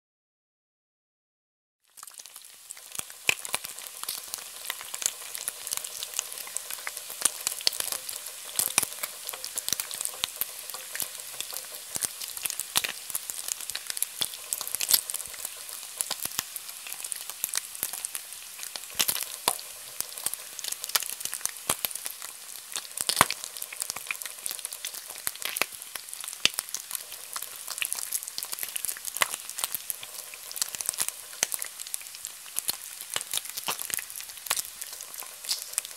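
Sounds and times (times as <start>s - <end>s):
bacon sizzling in a pan: 1.8s - 35.9s
fat crackling and popping: 1.9s - 35.9s.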